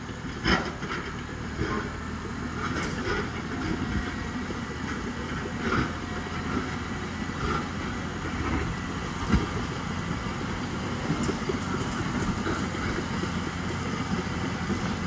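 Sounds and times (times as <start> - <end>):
dozer diesel engine running: 0.0 - 15.0.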